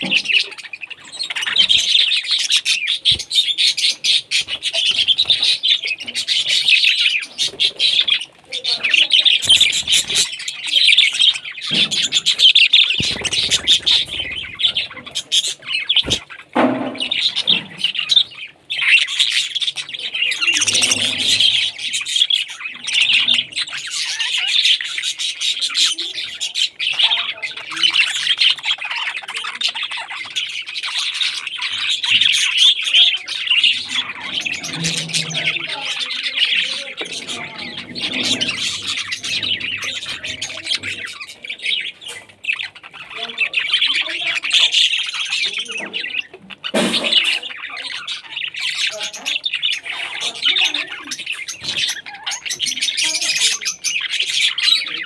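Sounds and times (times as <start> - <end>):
budgerigars chattering and chirping: 0.0 - 55.0.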